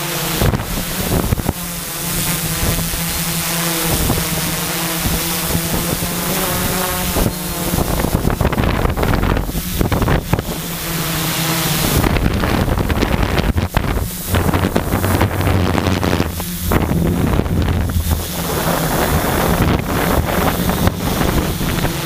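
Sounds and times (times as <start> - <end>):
quadcopter motors humming: 0.0 - 22.0
wind buffeting microphone: 0.0 - 22.0.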